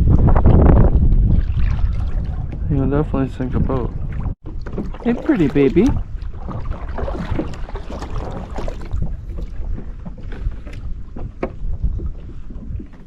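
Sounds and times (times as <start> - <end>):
wind buffeting microphone: 0.0 - 13.0
light water sounds: 1.2 - 13.0.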